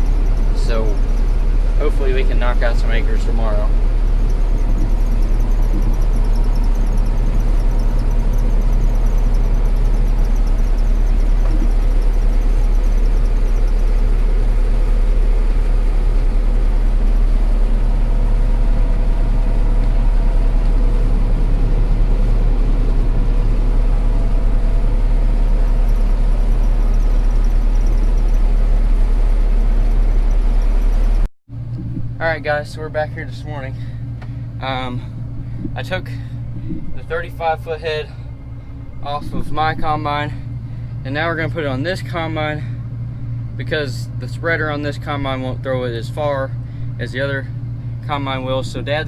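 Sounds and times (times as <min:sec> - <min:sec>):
combine harvester running: 0:00.0 - 0:49.0.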